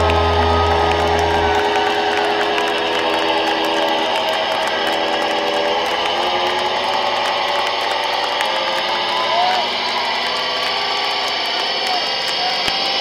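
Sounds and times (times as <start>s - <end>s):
distorted electric guitar feedback: 0.0s - 13.0s.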